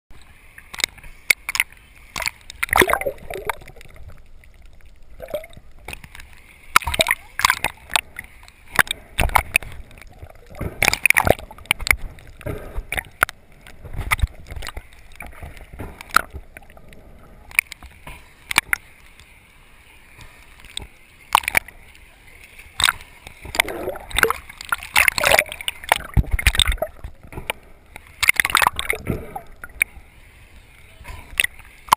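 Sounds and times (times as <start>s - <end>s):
water sloshing and gurgling: 0.1s - 31.9s.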